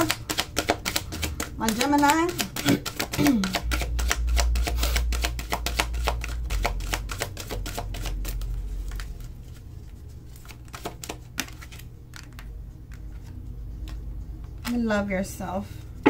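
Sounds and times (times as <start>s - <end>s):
cards being shuffled: 0.0s - 14.8s.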